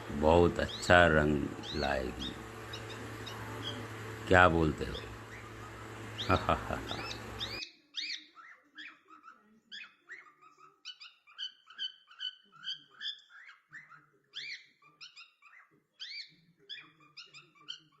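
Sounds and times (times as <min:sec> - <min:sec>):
cockatiel chirping: 0:01.6 - 0:03.8, 0:04.9 - 0:18.0.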